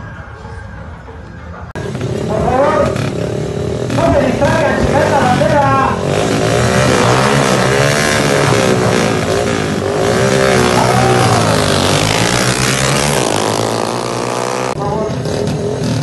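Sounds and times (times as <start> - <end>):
motorcycle engines revving: 1.7 - 16.0.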